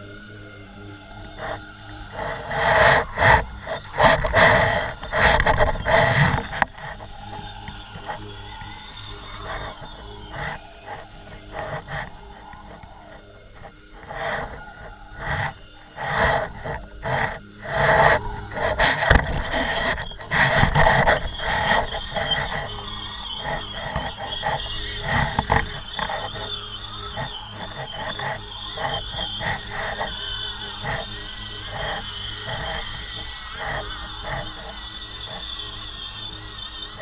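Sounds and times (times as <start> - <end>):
high whine: 0.0 - 37.0
wind buffeting microphone: 2.1 - 35.5.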